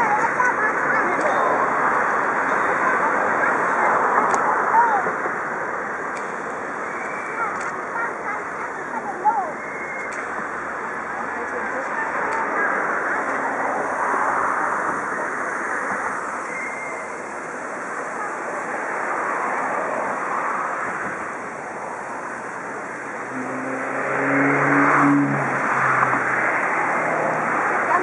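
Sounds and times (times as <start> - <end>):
murmur of large crowd: 0.0 - 28.0
steady rushing noise: 0.0 - 28.0.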